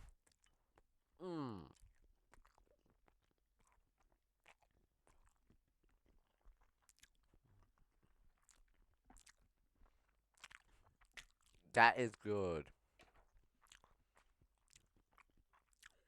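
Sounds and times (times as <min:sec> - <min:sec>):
chewing noodles: 0:00.2 - 0:11.7, 0:12.6 - 0:16.0.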